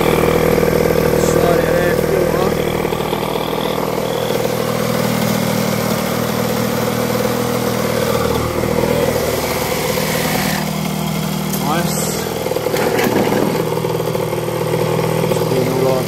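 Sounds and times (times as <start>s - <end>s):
two-stroke engine running: 0.0s - 16.0s.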